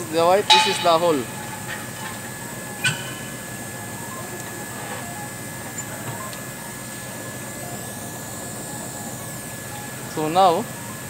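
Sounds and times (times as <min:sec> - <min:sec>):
steady background hum: 0:00.0 - 0:11.0
thin high tone: 0:00.0 - 0:11.0.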